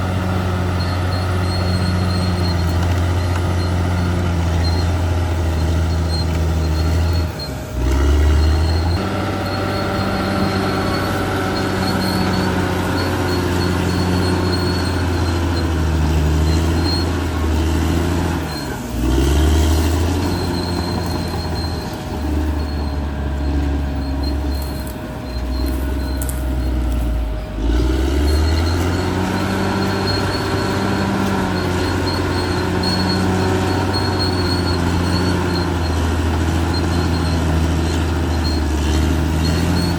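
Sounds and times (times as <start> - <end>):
bulldozer diesel engine under load: 0.0 - 39.9
running gear squealing: 0.0 - 39.9.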